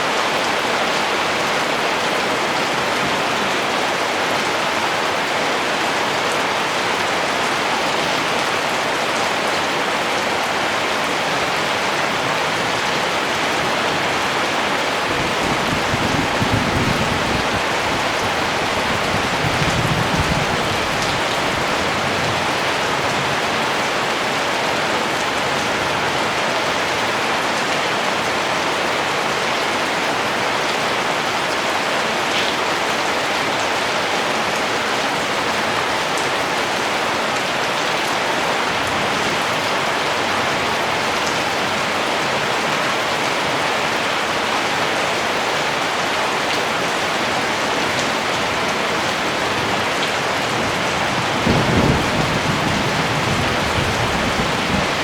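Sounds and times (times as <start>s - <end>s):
dense rainfall patter: 0.0s - 55.0s.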